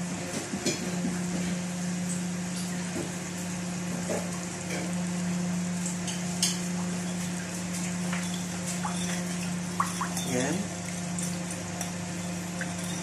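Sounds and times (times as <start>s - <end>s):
food sizzling and bubbling in a pot: 0.0s - 13.0s.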